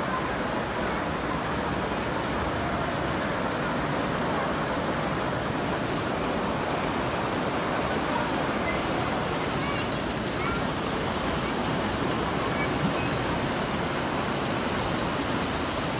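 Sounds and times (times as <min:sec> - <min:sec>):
floodwater rushing: 0:00.0 - 0:15.9.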